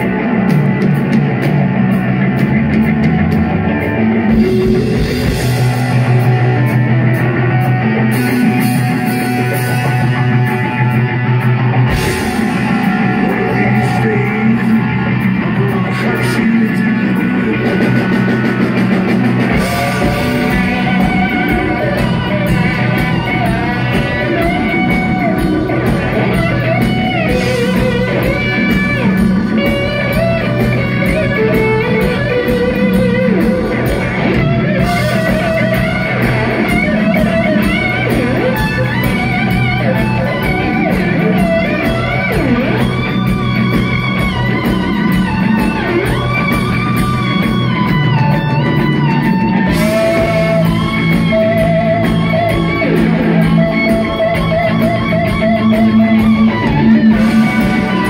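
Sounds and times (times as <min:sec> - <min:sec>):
drums: 0:00.0 - 0:58.0
electric guitar lead: 0:00.0 - 0:58.0.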